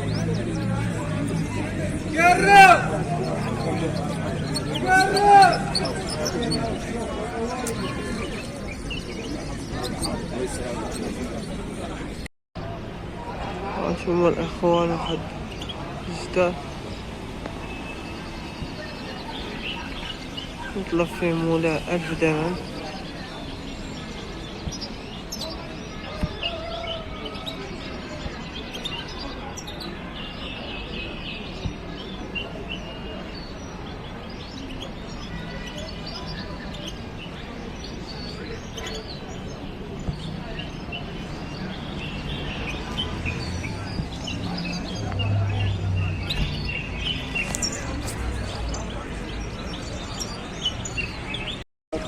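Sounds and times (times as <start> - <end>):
murmur of voices: 0.0 - 52.0
songbirds chirping and twittering: 0.0 - 52.0.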